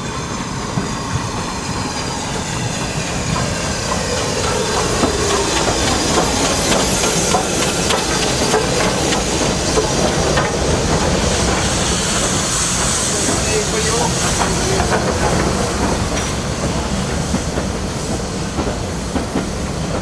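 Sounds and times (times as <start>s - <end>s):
train running on rails: 0.0s - 20.0s
wheels clicking over rail joints: 0.6s - 20.0s.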